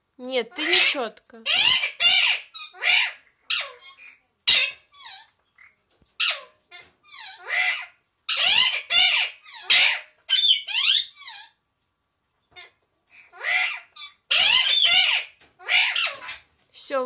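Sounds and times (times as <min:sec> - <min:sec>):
parakeets screeching: 0:00.5 - 0:11.6, 0:13.2 - 0:16.5.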